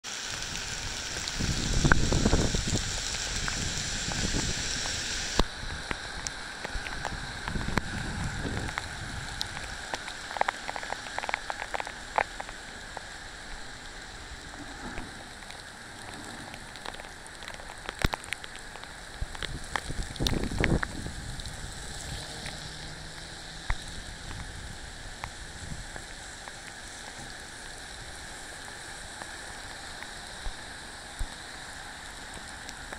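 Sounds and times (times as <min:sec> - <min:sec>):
heavy rain pouring on street: 0:00.0 - 0:32.9
sharp drips and splats: 0:00.0 - 0:32.9.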